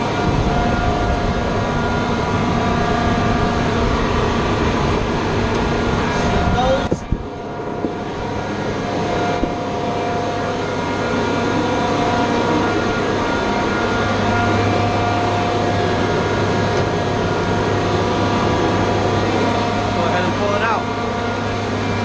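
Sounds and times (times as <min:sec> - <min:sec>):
faint whining tones: 0:00.0 - 0:22.0
generator engine droning: 0:00.0 - 0:22.0.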